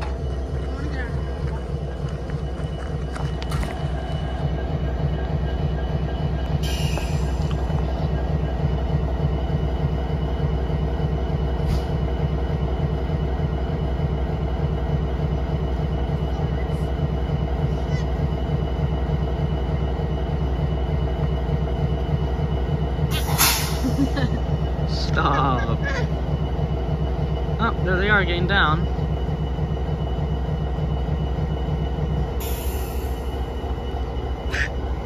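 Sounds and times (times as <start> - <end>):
diesel locomotive idling: 0.0 - 35.0.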